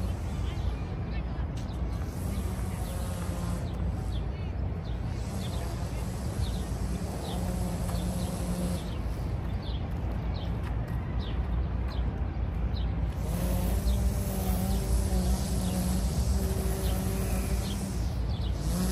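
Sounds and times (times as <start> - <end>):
low city rumble: 0.0 - 18.9
small birds chirping: 0.0 - 18.9.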